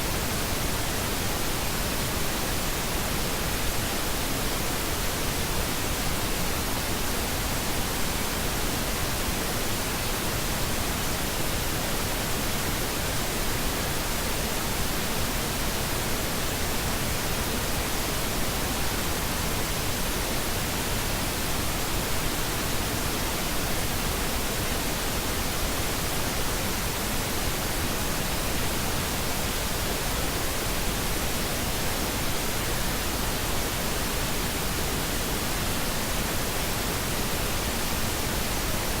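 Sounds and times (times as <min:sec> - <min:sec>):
pink noise hiss: 0:00.0 - 0:39.0.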